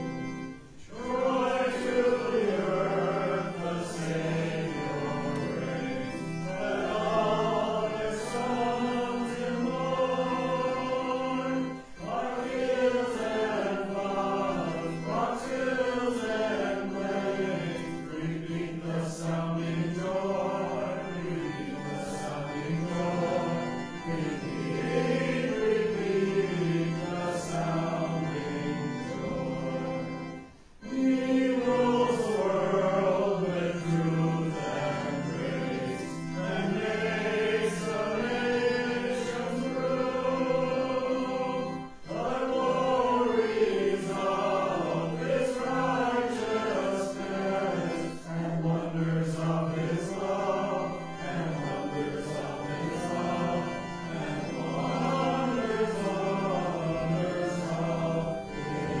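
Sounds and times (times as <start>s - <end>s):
congregation singing a hymn: 0.0s - 59.0s
held accompaniment notes: 0.0s - 59.0s.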